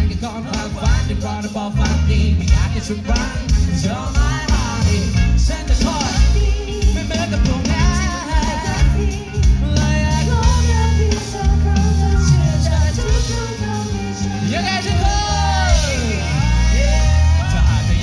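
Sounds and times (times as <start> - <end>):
live band playing: 0.0 - 18.0
person singing: 0.0 - 18.0.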